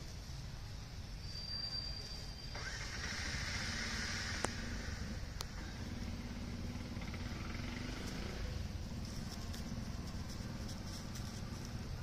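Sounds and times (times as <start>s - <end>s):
vehicle engine humming: 1.9s - 12.0s.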